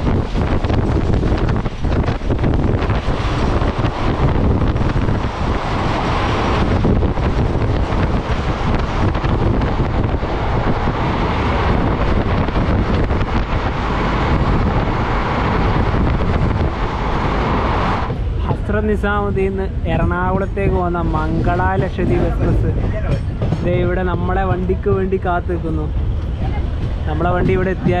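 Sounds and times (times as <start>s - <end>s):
moving train rumble: 0.0s - 28.0s
wind buffeting microphone: 0.0s - 28.0s.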